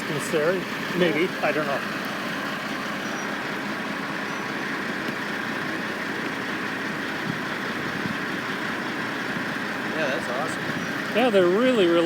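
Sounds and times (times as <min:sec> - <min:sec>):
construction machinery engines idling: 0:00.0 - 0:12.0.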